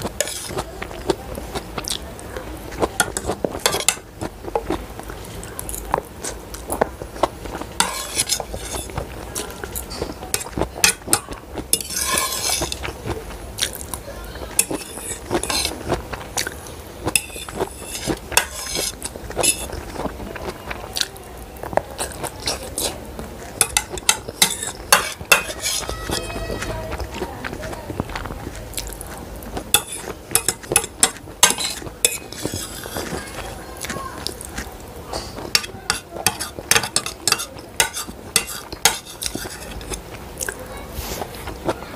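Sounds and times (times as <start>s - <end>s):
fork scraping plate: 0.0s - 2.0s, 2.7s - 4.8s, 7.2s - 13.8s, 14.5s - 20.1s, 22.0s - 27.8s, 29.5s - 41.8s
close-up chewing: 0.0s - 41.9s.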